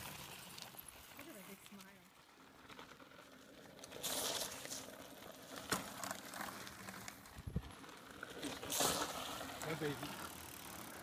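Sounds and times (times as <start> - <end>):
bike clicks and rattles: 0.0 - 11.0
bike tyres crunching on gravel: 0.0 - 11.0.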